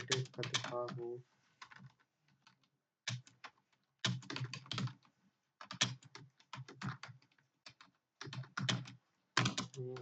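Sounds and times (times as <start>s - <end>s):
fast keyboard typing: 0.0s - 10.0s.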